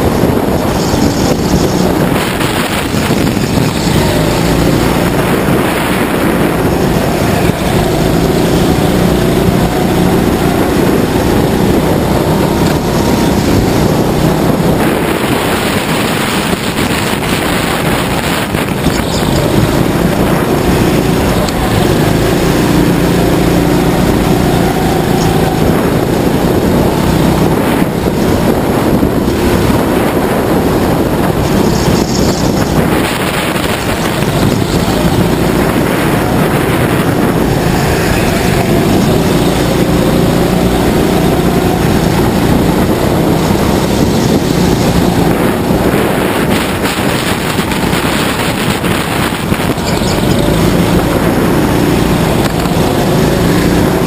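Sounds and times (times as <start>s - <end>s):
go-kart engine at full throttle: 0.0s - 54.0s
wind noise on microphone: 0.0s - 54.0s.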